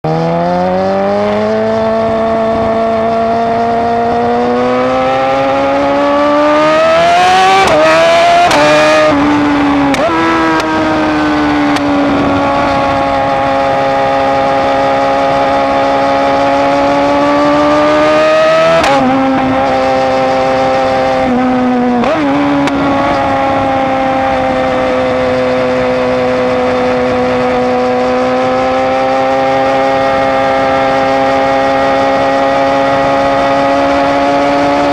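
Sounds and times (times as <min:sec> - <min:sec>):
motorcycle engine shifting gears: 0:00.0 - 0:34.9.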